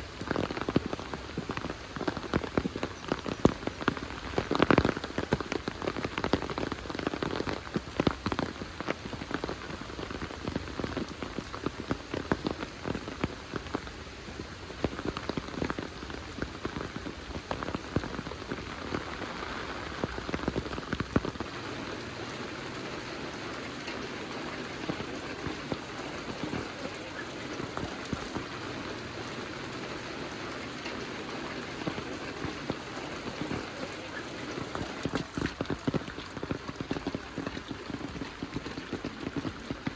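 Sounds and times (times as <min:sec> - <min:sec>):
close raindrops striking: 0:00.0 - 0:39.9
heavy rain hissing: 0:00.0 - 0:39.9.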